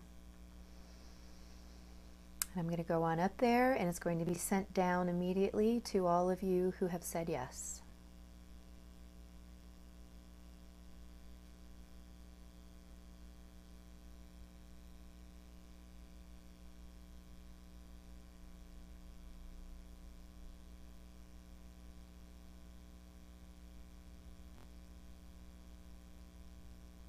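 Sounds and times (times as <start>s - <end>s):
faint electrical hum: 0.0s - 27.0s.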